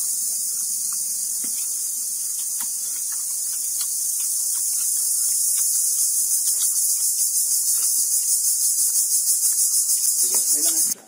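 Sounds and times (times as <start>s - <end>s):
pulsing insect chorus: 0.0s - 11.0s.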